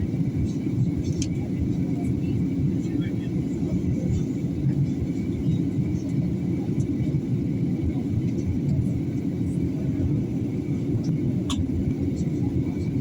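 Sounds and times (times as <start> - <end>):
airliner cabin rumble: 0.0 - 13.0
faint steady whine: 0.0 - 13.0.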